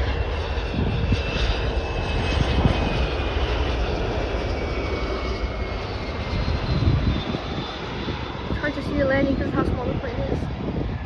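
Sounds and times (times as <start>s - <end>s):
high turbine whine: 0.0s - 11.0s
jet engines rumbling: 0.0s - 11.0s.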